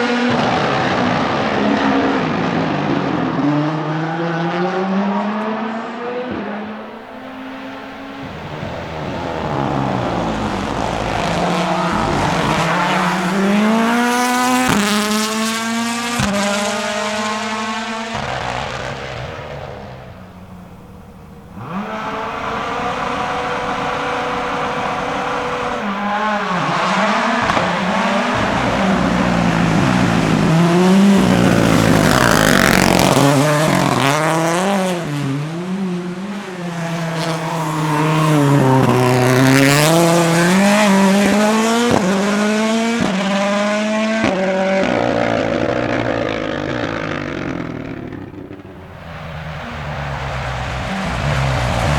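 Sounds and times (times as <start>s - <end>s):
rally car engine at full throttle: 0.0s - 51.9s.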